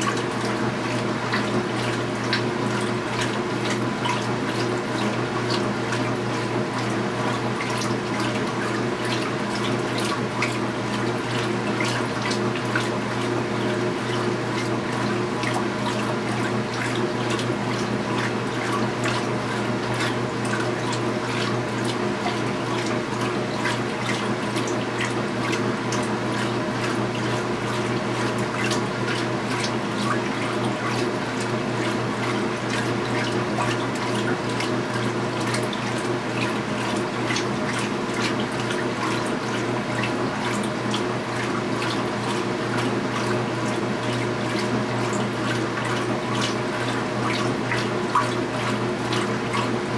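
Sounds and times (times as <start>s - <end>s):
washing machine hum: 0.0s - 49.9s
water dripping and splashing: 0.0s - 49.9s
water rushing into washing machine: 0.0s - 49.9s.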